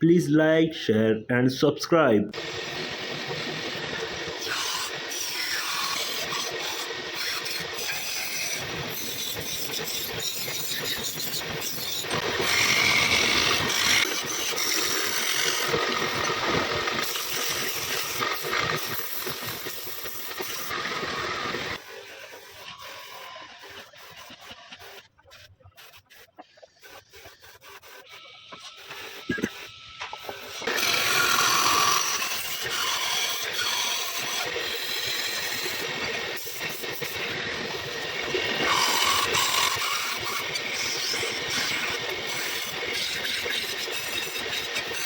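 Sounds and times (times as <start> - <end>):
power tool working wood: 2.3 - 24.8, 27.3 - 45.0.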